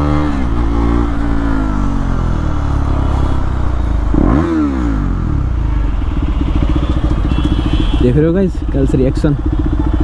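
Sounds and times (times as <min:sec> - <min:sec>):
motorcycle engine while riding: 0:00.0 - 0:10.0.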